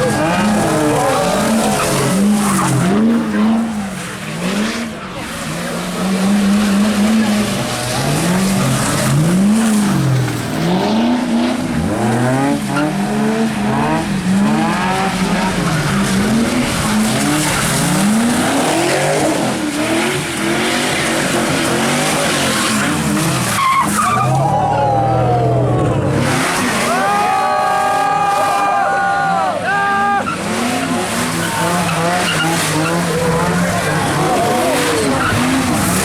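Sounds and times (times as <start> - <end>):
car engine revving: 0.0 - 28.8, 29.8 - 36.0
tyres skidding on pavement: 0.0 - 36.0.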